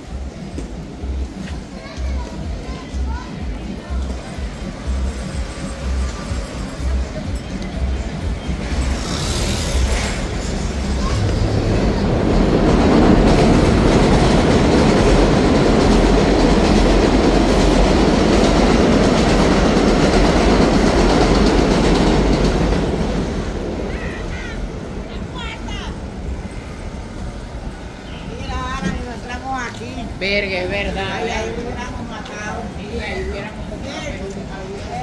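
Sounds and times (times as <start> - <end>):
elevated train passing: 0.0 - 35.0.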